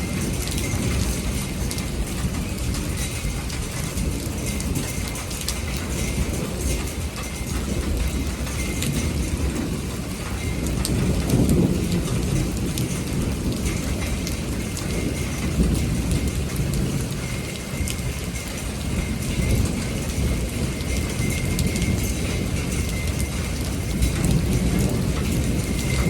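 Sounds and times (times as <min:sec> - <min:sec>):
rolling thunder: 0:00.0 - 0:26.0
steady rain: 0:00.0 - 0:26.0.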